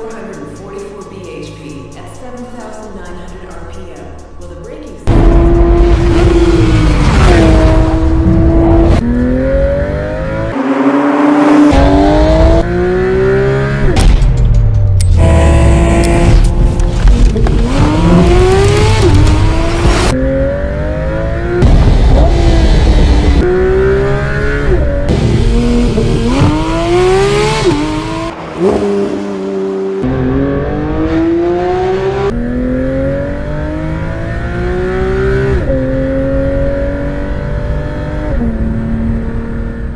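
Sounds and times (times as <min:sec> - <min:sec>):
car engine accelerating hard: 0:05.0 - 0:14.1, 0:15.1 - 0:39.9.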